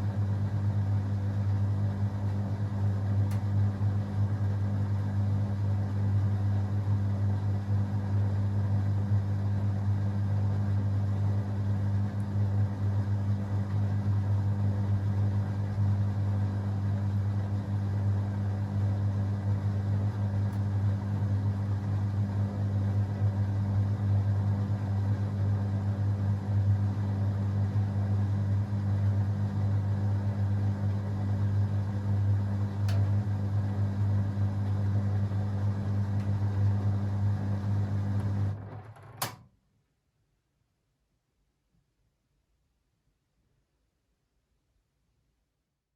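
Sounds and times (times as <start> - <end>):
washing machine motor hum: 0.0 - 39.4.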